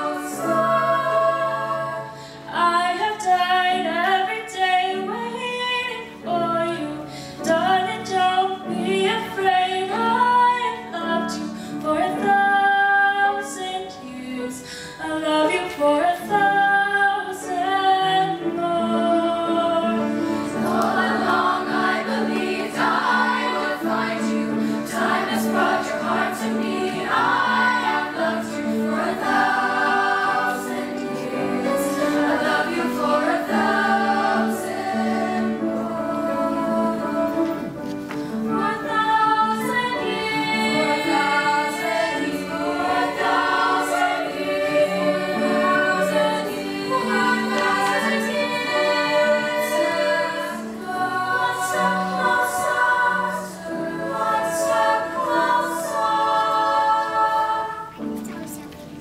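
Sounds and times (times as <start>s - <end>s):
treble choir singing in harmony: 0.0s - 58.3s.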